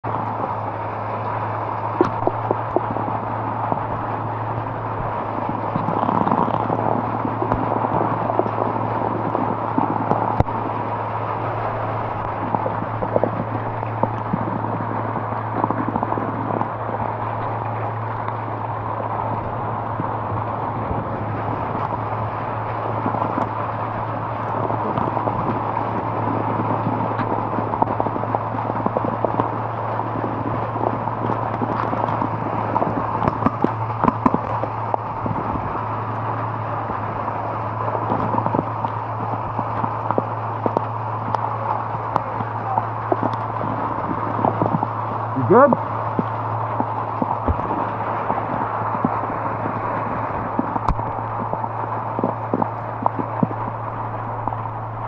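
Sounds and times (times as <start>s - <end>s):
constant low hum: 0.0s - 55.0s
rain pattering: 0.0s - 55.0s.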